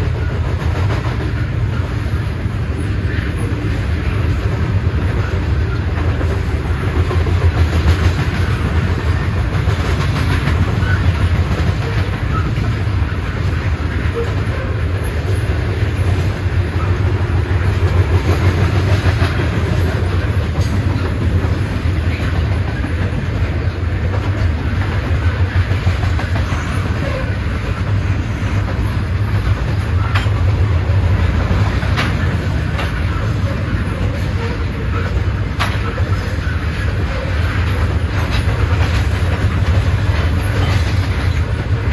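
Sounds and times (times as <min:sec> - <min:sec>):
clacks over rail joints: 0:00.0 - 0:41.9
train wheels rumbling on rails: 0:00.0 - 0:41.9.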